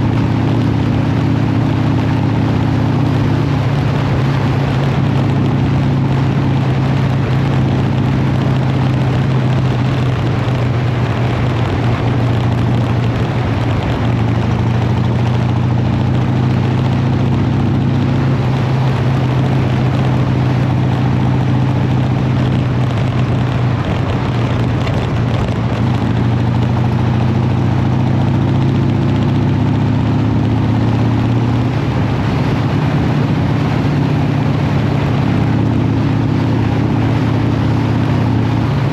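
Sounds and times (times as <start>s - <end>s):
motorcycle engine running: 0.0s - 38.9s
rushing noise: 0.0s - 38.9s.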